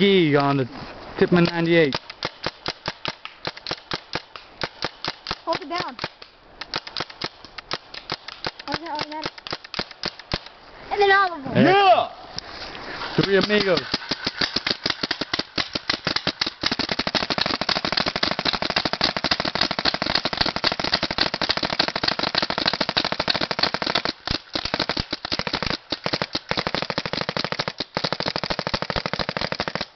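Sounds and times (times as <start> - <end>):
paintball markers firing: 1.4 - 10.5, 13.2 - 29.9.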